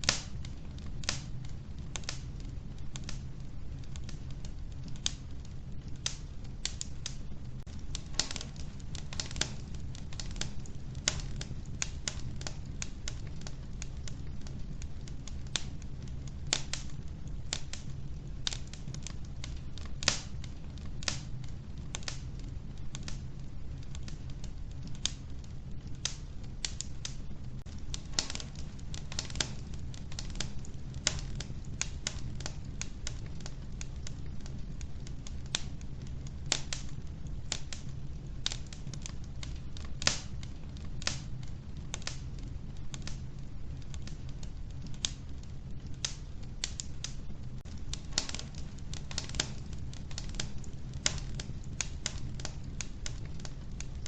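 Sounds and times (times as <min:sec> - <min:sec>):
steady low rumble: 0:00.0 - 0:54.0
wood stove fire crackling: 0:00.0 - 0:54.0.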